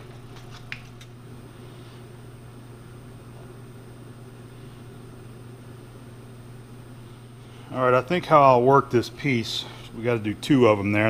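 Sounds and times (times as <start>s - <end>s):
machine shop hum: 0.0s - 11.0s.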